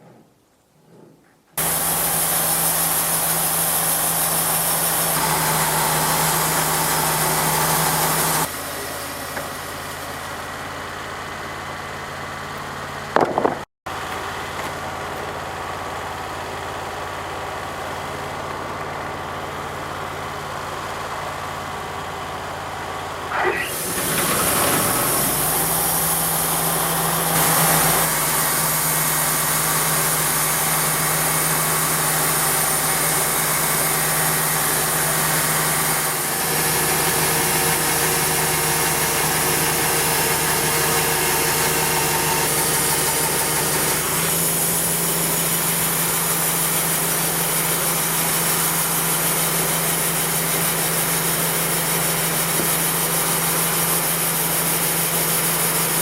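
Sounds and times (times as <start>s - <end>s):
engine running: 1.6s - 56.0s.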